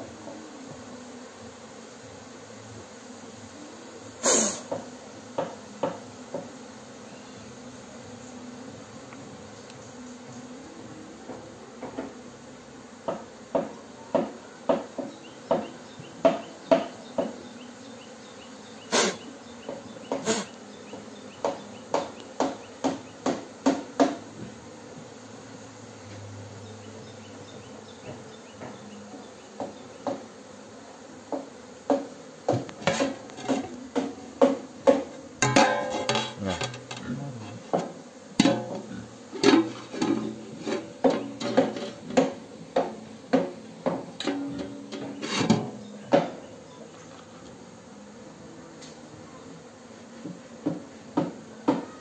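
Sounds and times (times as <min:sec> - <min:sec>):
honey bees buzzing: 0:00.0 - 0:52.0.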